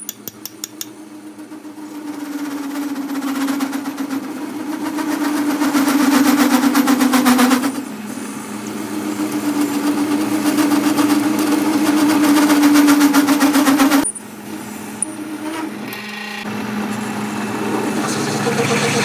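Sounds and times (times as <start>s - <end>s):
irregular mechanical sound: 0.0s - 19.0s
machine humming and pulsing: 0.0s - 19.0s.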